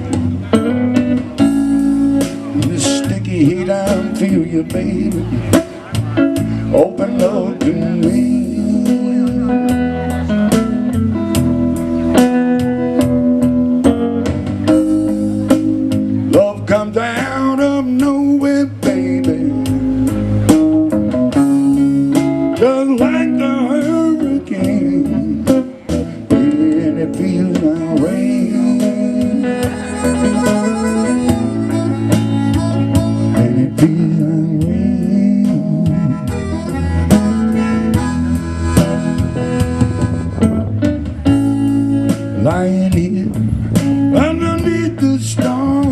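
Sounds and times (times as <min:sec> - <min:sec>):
bass guitar line: 0:00.0 - 0:45.9
electric guitar bent notes: 0:00.0 - 0:45.9.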